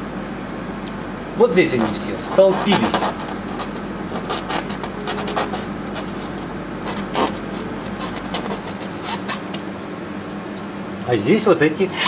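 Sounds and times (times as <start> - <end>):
painting knife scraping canvas: 1.7 - 12.0.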